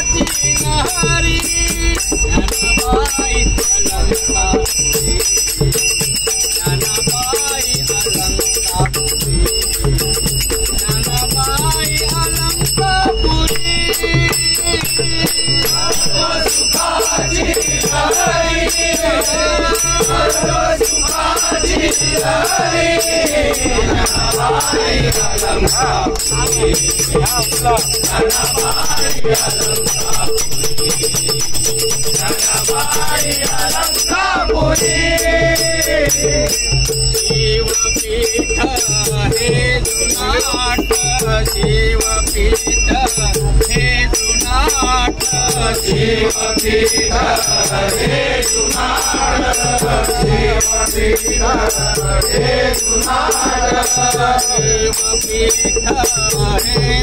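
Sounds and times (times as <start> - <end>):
group of men singing devotional song: 0.0 - 57.0
hand cymbals jingling: 0.0 - 57.0.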